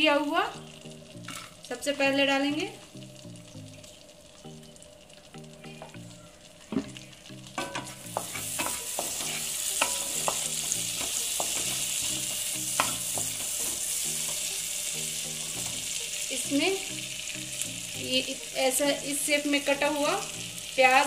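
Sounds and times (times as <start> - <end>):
garlic sizzling in butter: 0.0 - 21.0.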